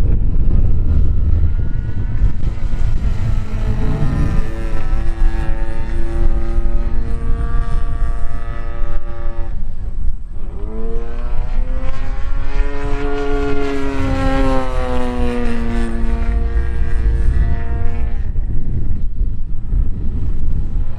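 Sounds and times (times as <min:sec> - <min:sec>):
model plane engine: 0:00.1 - 0:20.9.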